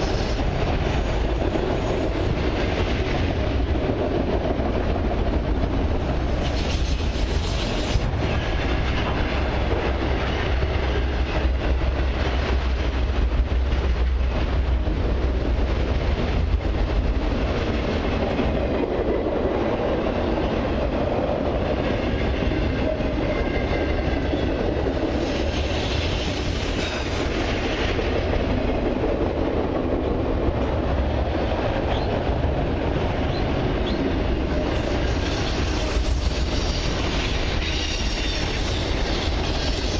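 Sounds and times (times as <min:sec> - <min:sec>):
train cars clacking: 0:00.0 - 0:39.9
train wheels rumbling on rails: 0:00.0 - 0:39.9.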